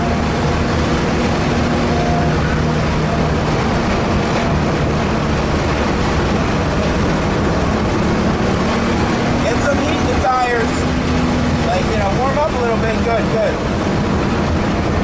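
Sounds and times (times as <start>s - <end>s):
car engine pulling at speed: 0.0s - 15.0s
road and wind noise: 0.0s - 15.0s.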